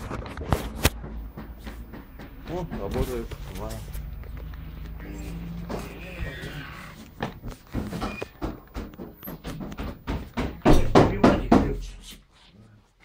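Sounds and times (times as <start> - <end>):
irregular knocks and scuffs: 0.2 - 13.0.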